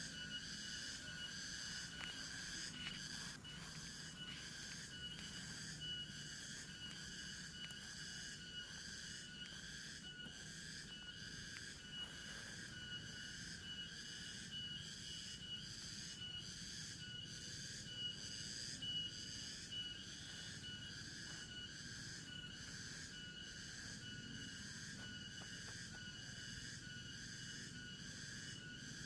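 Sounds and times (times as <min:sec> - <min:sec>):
insects trilling: 0:00.0 - 0:29.0
low whistling insect tones: 0:00.0 - 0:29.0.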